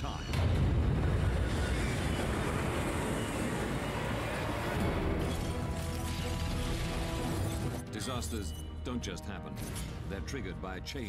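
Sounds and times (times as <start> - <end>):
sustained music tones: 2.0 - 11.0.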